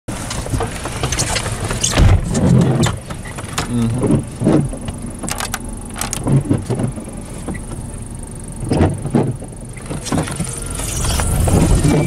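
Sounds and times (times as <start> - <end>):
truck engine running: 0.1 - 12.0.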